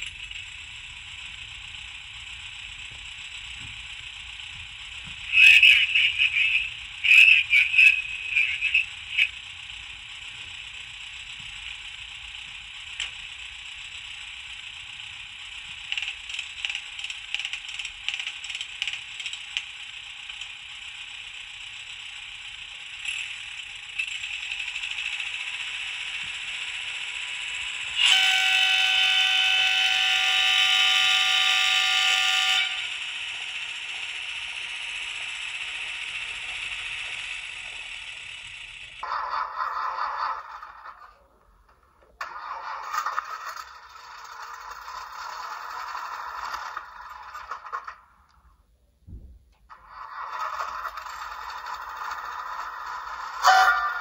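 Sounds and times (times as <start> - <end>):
model train running sound: 0.0 - 48.6, 49.7 - 54.0.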